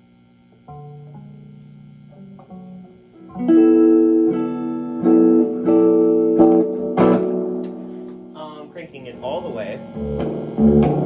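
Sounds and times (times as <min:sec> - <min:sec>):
electric guitar strummed chords: 0:00.6 - 0:11.0.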